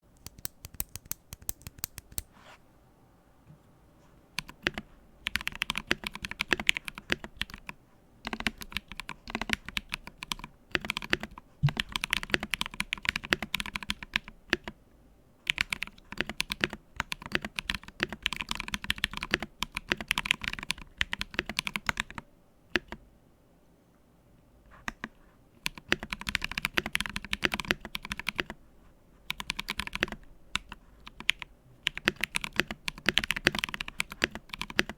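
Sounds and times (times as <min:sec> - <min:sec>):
typing on mechanical keyboard: 0:00.2 - 0:02.2, 0:04.4 - 0:14.8, 0:15.5 - 0:23.0, 0:24.9 - 0:28.6, 0:29.3 - 0:34.9.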